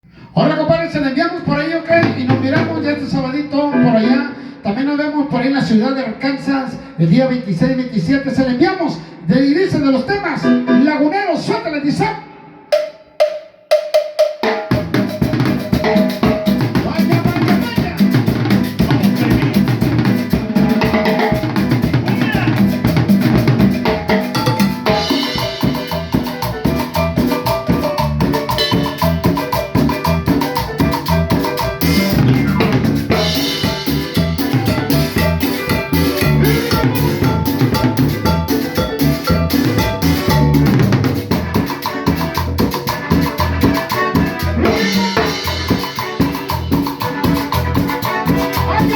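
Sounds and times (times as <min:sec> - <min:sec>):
cumbia band playing: 0:00.2 - 0:05.8, 0:09.6 - 0:48.9.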